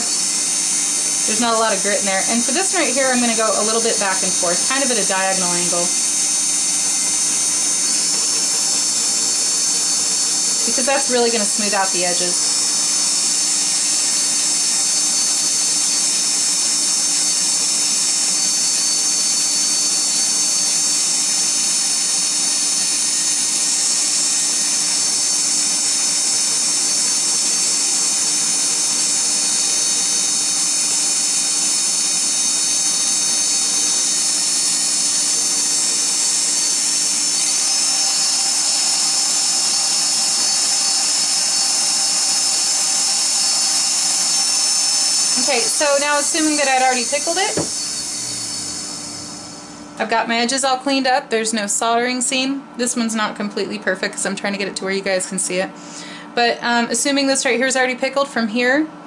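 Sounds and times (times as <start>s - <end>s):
rotary tool polishing wheel whine: 0.0s - 50.5s.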